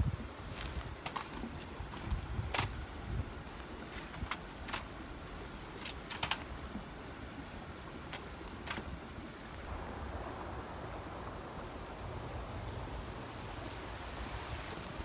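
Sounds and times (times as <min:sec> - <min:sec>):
stream water: 0:00.0 - 0:15.0
wind: 0:00.0 - 0:15.0.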